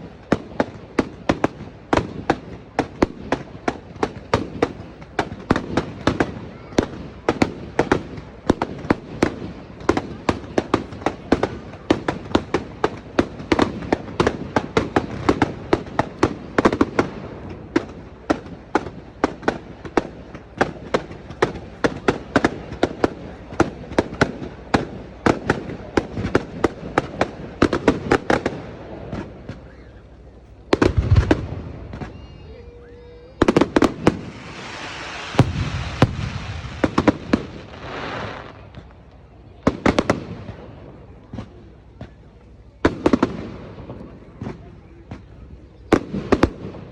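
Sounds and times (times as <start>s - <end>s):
fireworks booms: 0.0s - 46.9s
fireworks crackling bangs: 0.0s - 46.9s.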